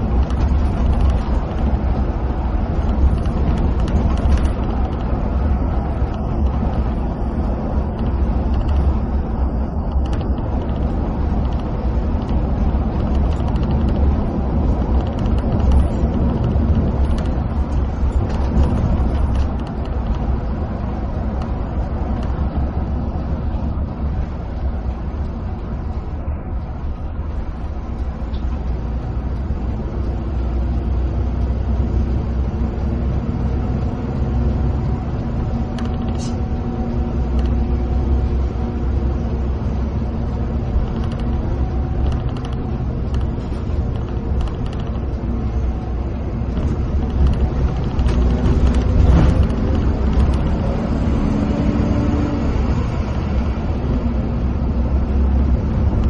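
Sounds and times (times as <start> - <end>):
bus engine running: 0.0 - 56.0
tyres rumbling on road: 0.0 - 56.0.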